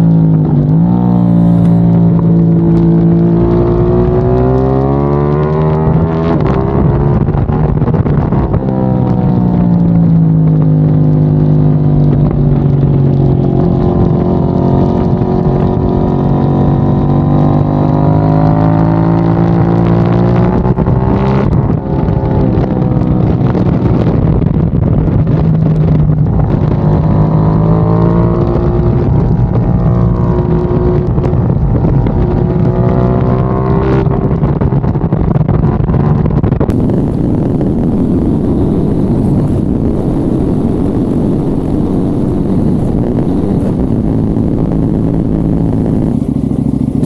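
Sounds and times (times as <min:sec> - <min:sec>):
motorcycle engine running hard: 0:00.0 - 0:47.0.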